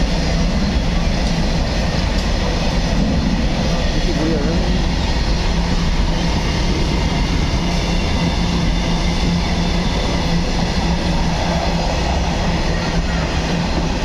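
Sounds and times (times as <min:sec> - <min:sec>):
constant low hum: 0:00.0 - 0:14.0
train wheels on rails: 0:00.0 - 0:14.0.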